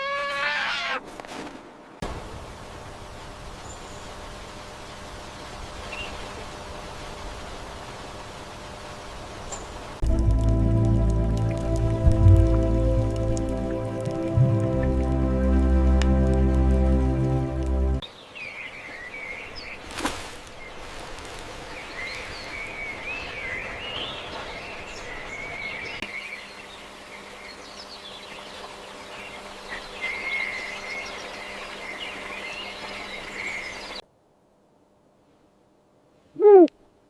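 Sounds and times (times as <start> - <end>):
steady outdoor hiss: 0.0 - 37.0.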